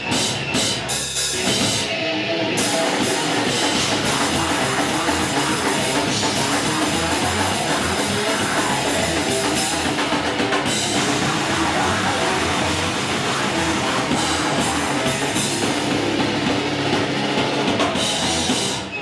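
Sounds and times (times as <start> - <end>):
metal band playing live: 0.0 - 19.0.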